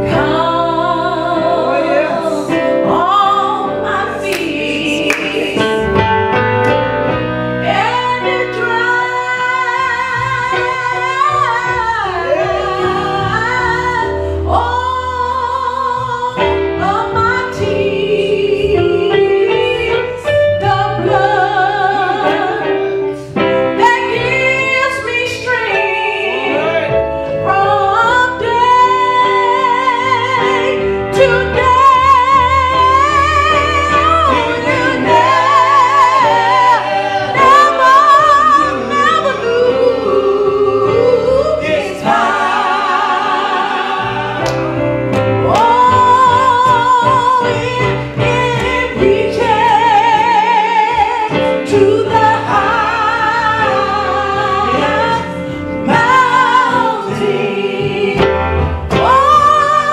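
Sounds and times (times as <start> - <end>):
woman singing gospel: 0.0 - 6.0, 7.6 - 22.8, 27.5 - 44.2, 45.4 - 58.3
instrumental accompaniment: 0.0 - 59.9.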